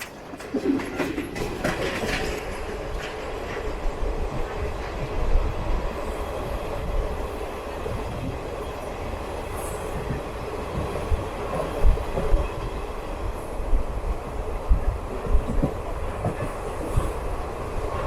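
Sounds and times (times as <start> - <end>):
train coaches rumbling on track: 0.0 - 18.0.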